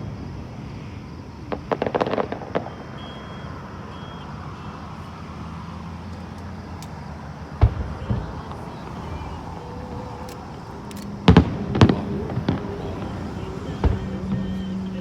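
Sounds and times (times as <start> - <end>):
fireworks crackling: 0.0 - 15.0
fireworks bang: 1.3 - 15.0.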